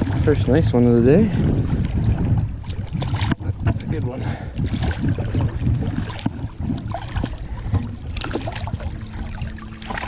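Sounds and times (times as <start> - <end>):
river water splashing: 0.0 - 10.0.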